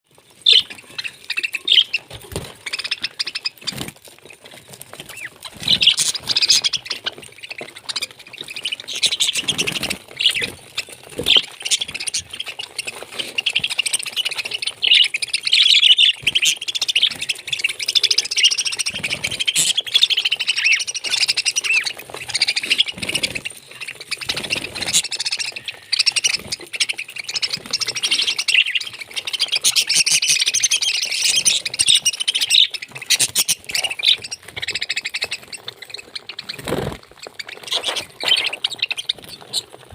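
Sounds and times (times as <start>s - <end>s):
parrot chirping and squawking: 0.4s - 4.4s, 5.0s - 39.8s.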